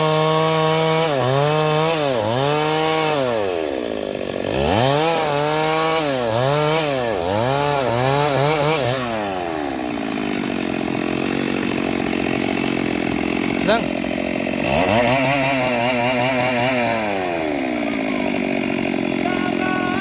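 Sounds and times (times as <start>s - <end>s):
chainsaw revving and idling: 0.0s - 20.0s.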